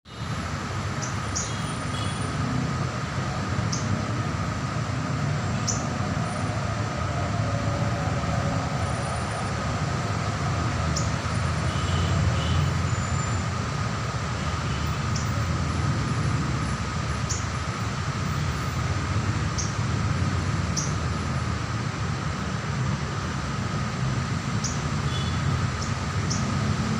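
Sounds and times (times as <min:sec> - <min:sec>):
loud steady rumble and hiss: 0:00.1 - 0:26.9.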